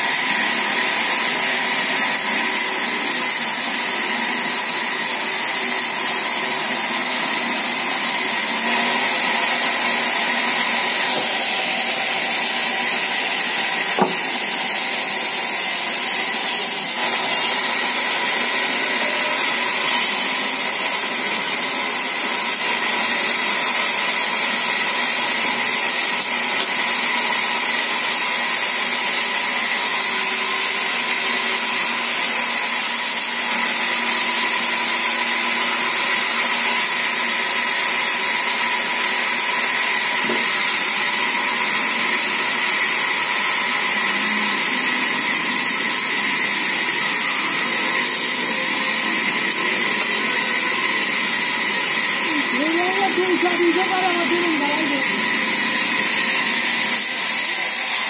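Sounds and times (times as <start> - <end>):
band saw cutting wood: 0.0 - 58.0.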